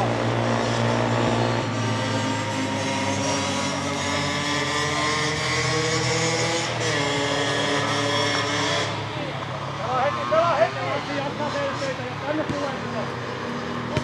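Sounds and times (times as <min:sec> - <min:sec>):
motor engine running: 0:00.0 - 0:09.9, 0:10.7 - 0:14.0.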